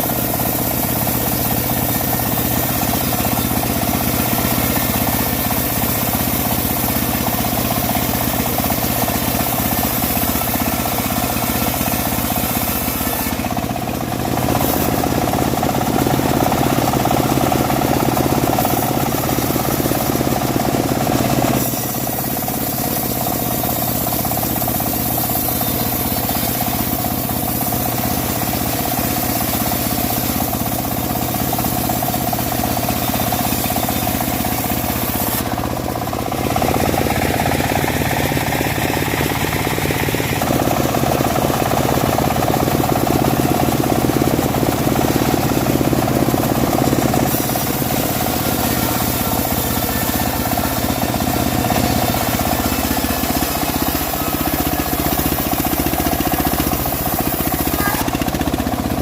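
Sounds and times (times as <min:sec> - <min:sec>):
bandsaw mill sawing wood: 0:00.0 - 0:59.0.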